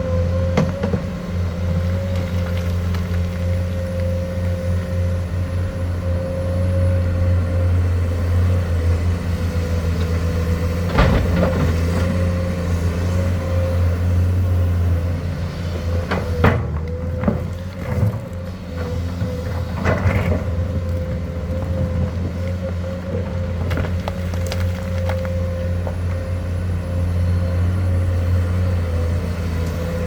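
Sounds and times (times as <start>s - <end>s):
excavator diesel engine droning: 0.0s - 30.0s.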